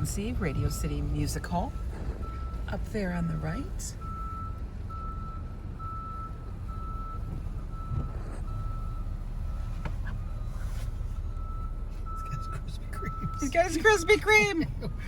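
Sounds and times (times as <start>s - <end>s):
car engine rumble: 0.0s - 15.0s
reversing alarm beeping: 0.0s - 15.0s
road noise: 0.0s - 15.0s.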